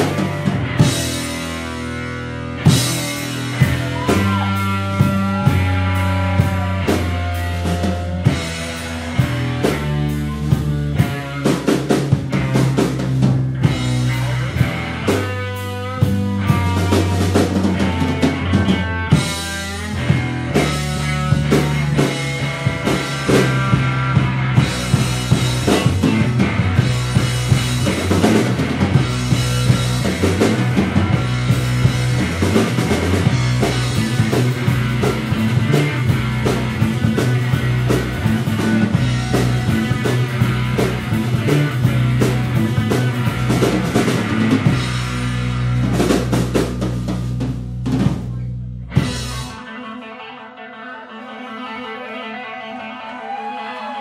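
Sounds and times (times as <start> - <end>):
drum kit: 0.0 - 49.8
bass guitar: 0.0 - 54.0
electric guitar: 0.0 - 54.0.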